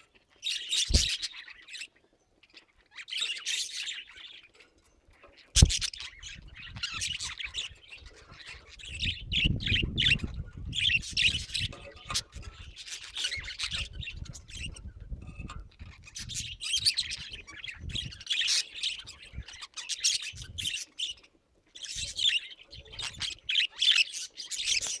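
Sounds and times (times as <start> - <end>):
budgerigars chattering and squawking: 0.1 - 4.6, 5.2 - 25.0.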